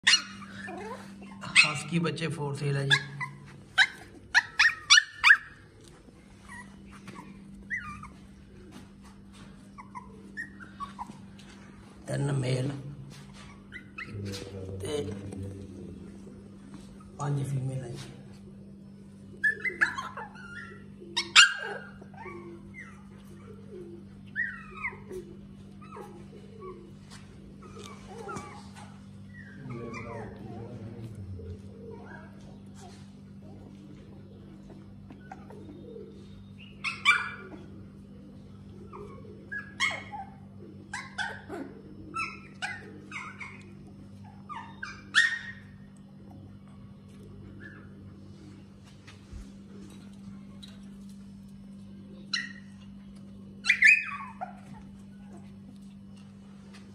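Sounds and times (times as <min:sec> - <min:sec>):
puppies whimpering and yipping: 0:00.0 - 0:12.1, 0:13.1 - 0:14.7, 0:16.1 - 0:17.3, 0:18.0 - 0:56.9.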